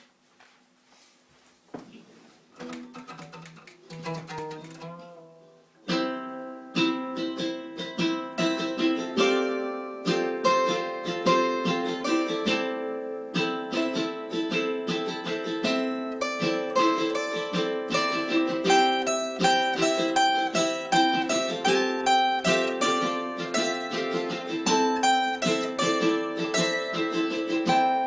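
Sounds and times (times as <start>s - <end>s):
plucked string instrument melody: 2.6s - 28.0s.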